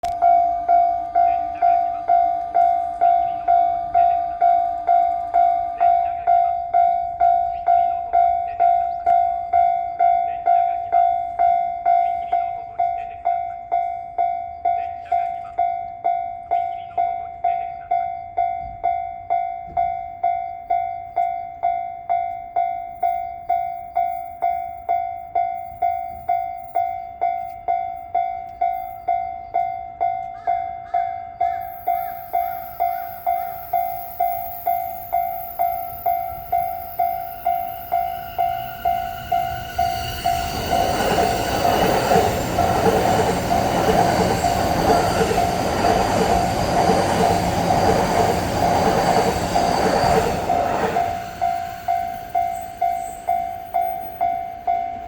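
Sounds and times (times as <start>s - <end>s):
level-crossing electronic bell: 0.1s - 55.0s.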